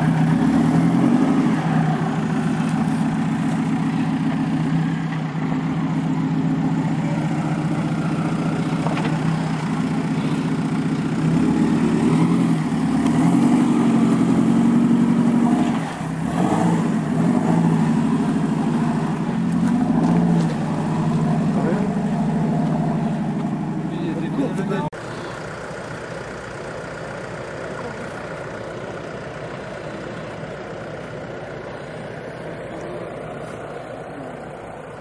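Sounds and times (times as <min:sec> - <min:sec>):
engine running at low revs: 0:00.0 - 0:35.0.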